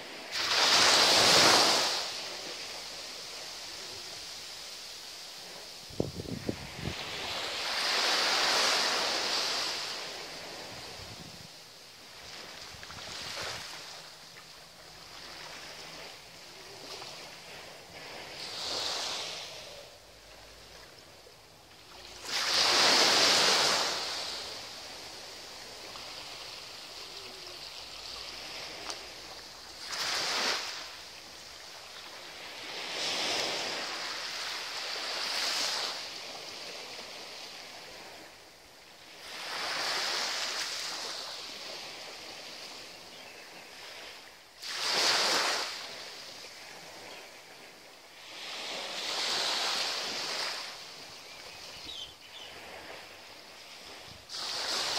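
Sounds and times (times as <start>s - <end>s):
small waves washing on sand: 0.0s - 54.9s.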